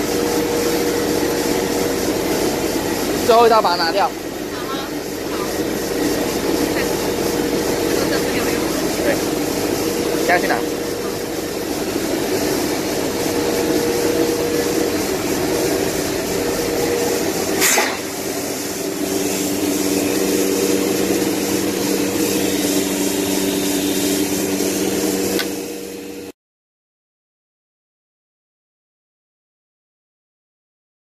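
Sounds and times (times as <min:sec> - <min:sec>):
woodworking router humming: 0:00.0 - 0:26.2.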